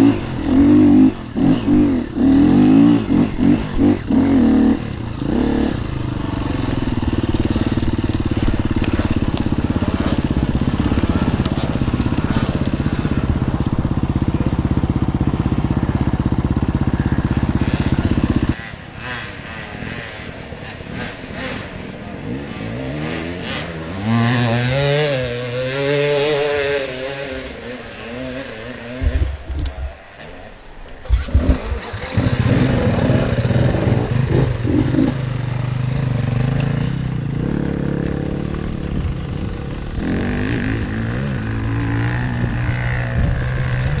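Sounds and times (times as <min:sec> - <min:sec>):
dirt bike engine running: 0:00.0 - 0:44.0
motorcycle engine revving: 0:00.0 - 0:44.0.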